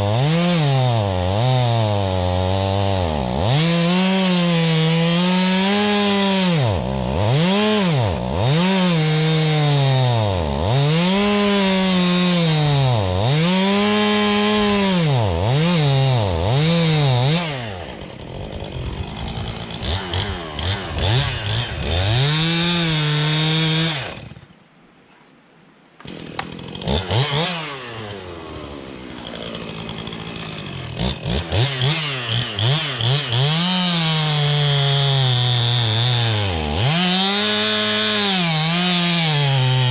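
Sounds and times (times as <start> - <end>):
chainsaw cutting into tree: 0.0 - 24.6, 26.0 - 39.9.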